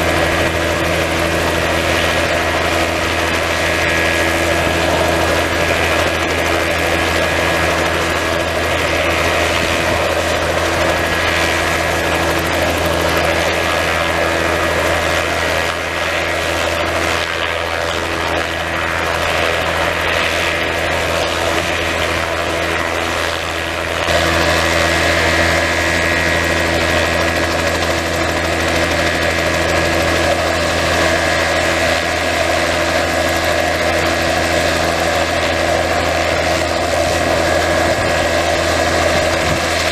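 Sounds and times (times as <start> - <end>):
helicopter idling: 0.0 - 39.9.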